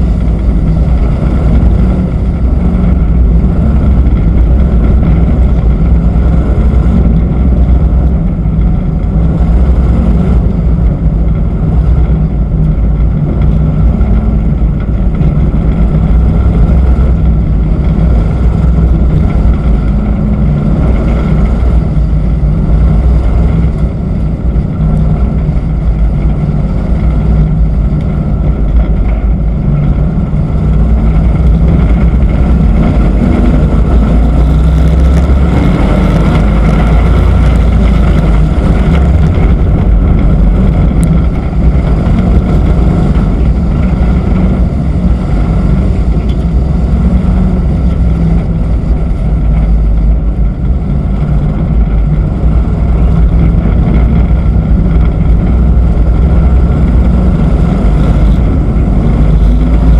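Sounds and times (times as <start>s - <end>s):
truck engine running at speed: 0.0s - 59.9s.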